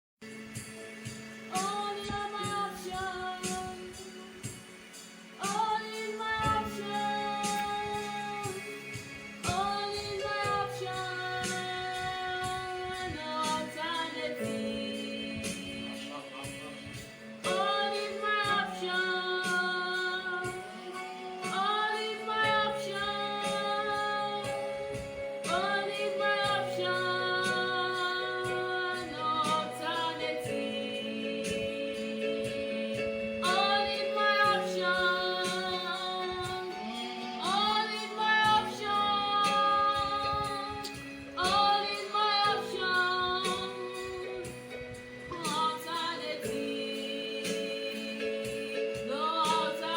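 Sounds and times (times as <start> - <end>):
woman singing gospel song: 1.5 - 49.9.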